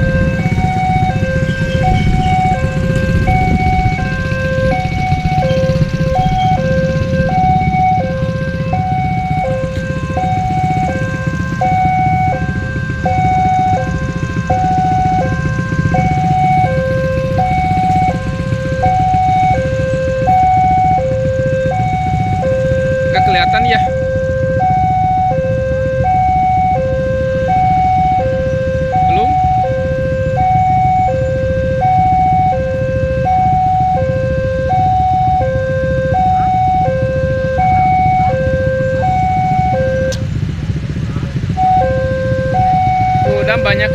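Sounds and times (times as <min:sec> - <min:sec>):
electronic two-tone crossing alarm: 0:00.0 - 0:40.3, 0:41.4 - 0:43.9
vehicle engines rumbling: 0:00.0 - 0:43.9.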